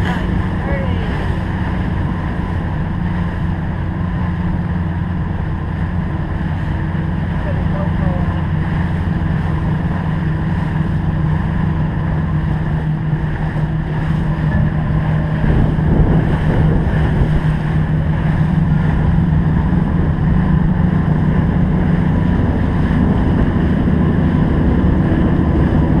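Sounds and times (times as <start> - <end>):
boat motor running: 0.0 - 26.0
wind buffeting microphone: 0.0 - 26.0.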